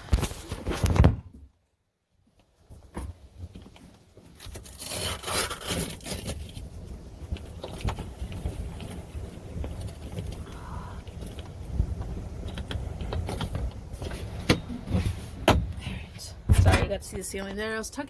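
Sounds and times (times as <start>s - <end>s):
scraping and rustling: 2.6s - 17.2s.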